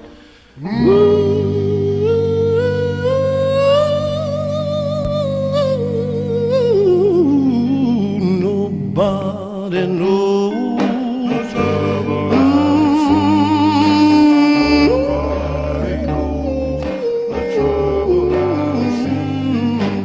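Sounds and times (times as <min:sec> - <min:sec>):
person singing gospel: 0:00.0 - 0:20.0
bass line: 0:00.6 - 0:20.0.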